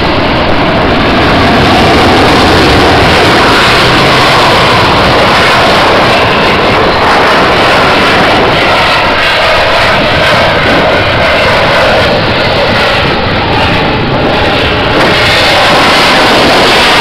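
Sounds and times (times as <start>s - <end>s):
fighter jet engine roar: 0.0s - 17.0s.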